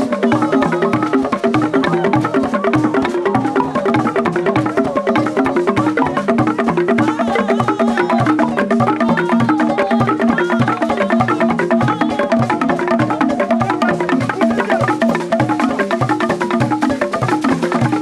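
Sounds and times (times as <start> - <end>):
wooden drums and percussion: 0.0 - 18.0.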